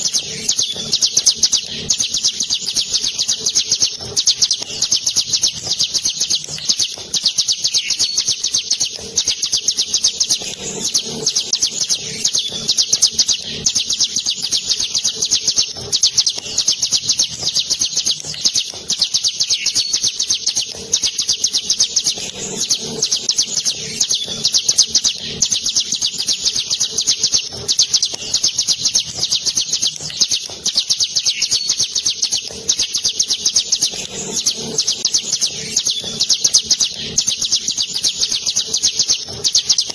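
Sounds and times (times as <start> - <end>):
bird singing fast high trill: 0.0 - 39.9.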